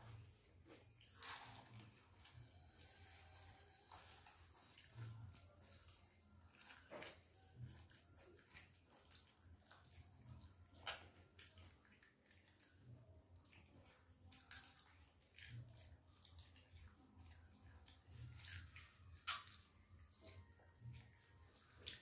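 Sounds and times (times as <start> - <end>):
wet chewing and crunching: 0.0 - 22.0.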